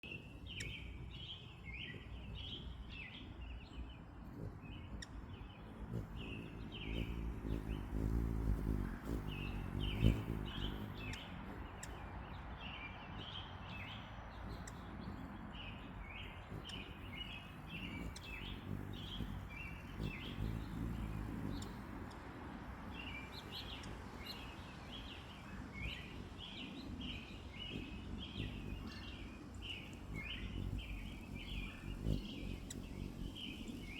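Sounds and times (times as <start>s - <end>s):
hummingbirds chirping: 0.0s - 33.9s.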